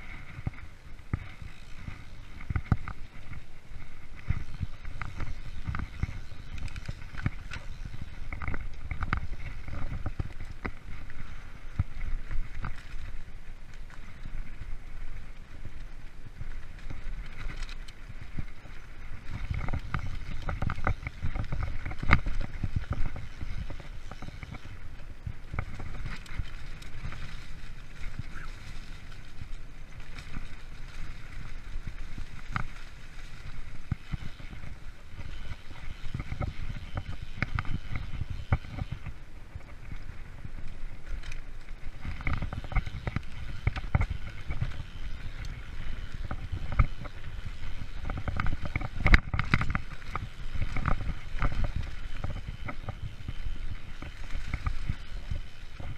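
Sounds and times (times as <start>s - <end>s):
bike clicks and rattles: 0.0s - 55.9s
bike tyres rumbling on trail: 0.0s - 55.9s.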